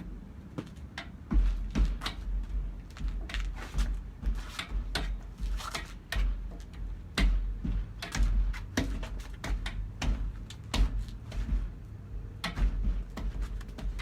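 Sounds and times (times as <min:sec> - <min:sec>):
low thuds: 0:00.0 - 0:14.0.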